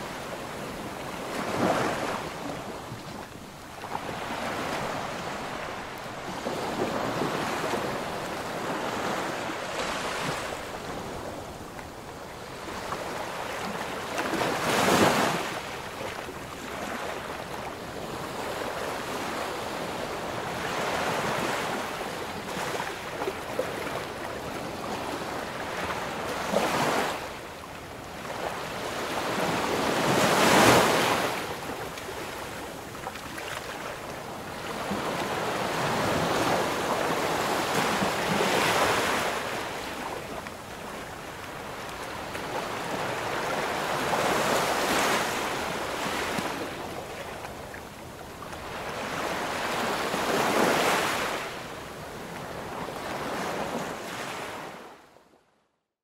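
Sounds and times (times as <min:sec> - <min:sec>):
waves washing in: 0:00.0 - 0:54.8.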